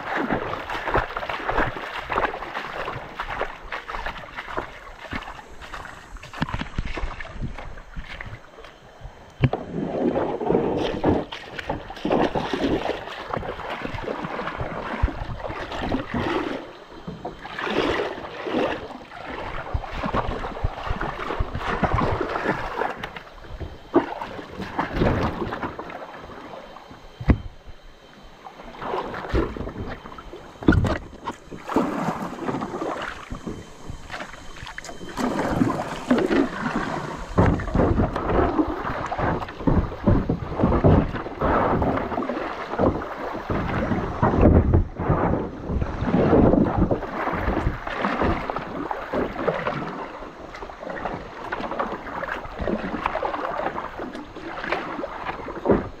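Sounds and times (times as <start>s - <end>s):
water splashing around kayak: 0.0s - 56.0s
wind rumbling on microphone: 0.0s - 56.0s.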